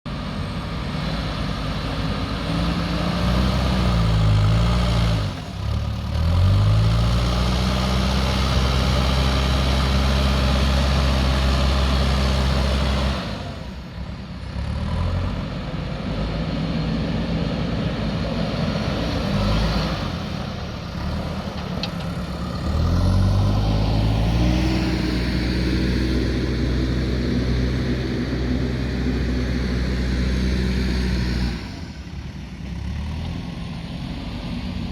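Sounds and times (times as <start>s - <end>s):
diesel engine revving under load: 0.1s - 34.9s.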